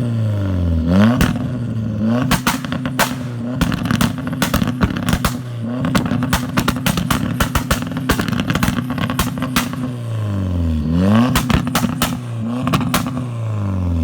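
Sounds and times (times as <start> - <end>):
car engine revving: 0.0 - 14.0
exhaust pops and cracks: 1.1 - 10.2, 11.2 - 13.4.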